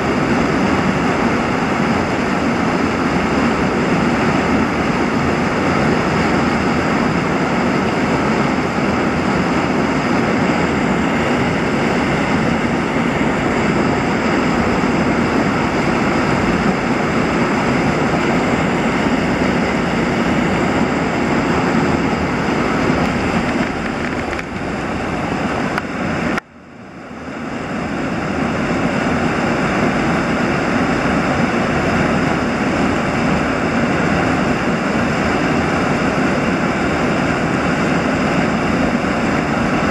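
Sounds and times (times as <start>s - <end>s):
churning white water rushing: 0.0s - 39.9s.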